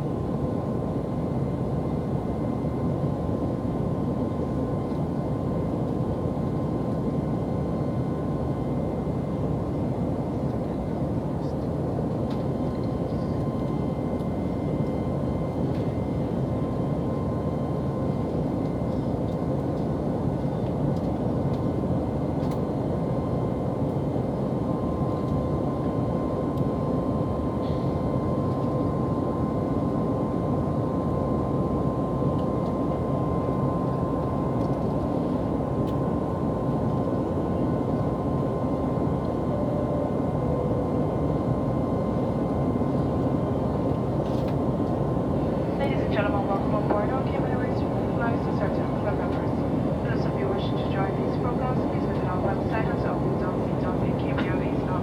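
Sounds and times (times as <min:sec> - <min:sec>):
airliner engines and airflow roar: 0:00.0 - 0:55.0.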